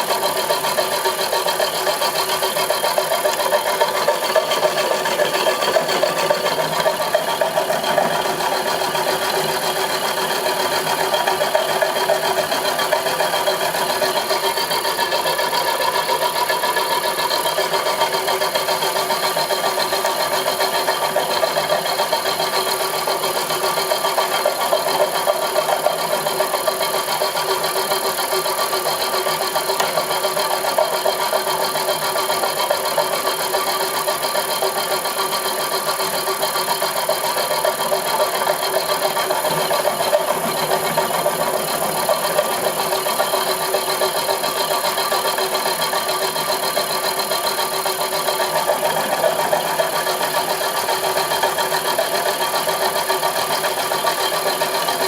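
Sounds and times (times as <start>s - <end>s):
milling machine whirring: 0.0s - 55.0s.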